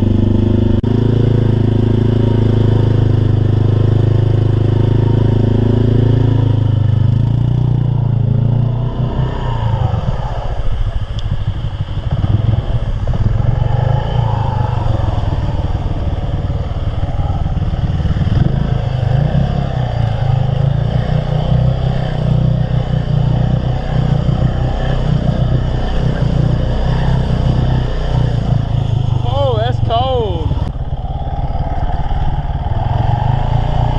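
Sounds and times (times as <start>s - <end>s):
truck engine revving: 0.0s - 33.9s.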